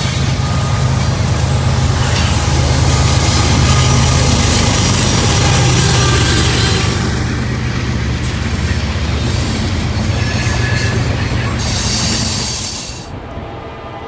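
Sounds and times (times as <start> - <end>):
high wheel squeal: 0.0 - 13.1
steel wheels rolling on rails: 0.0 - 13.1
train rumbling: 0.0 - 14.0.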